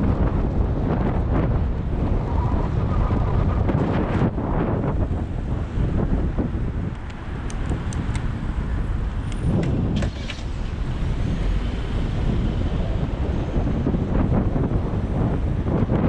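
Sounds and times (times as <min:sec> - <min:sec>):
road traffic: 0:00.0 - 0:16.0
wind rumbling on microphone: 0:00.0 - 0:16.0.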